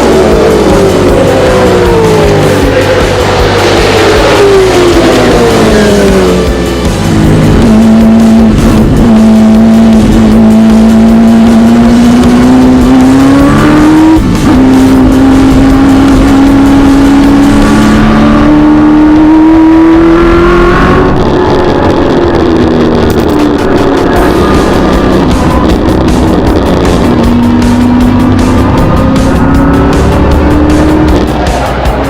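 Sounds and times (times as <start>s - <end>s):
gear change: 0.0s - 32.0s
race car engine accelerating: 0.0s - 32.0s.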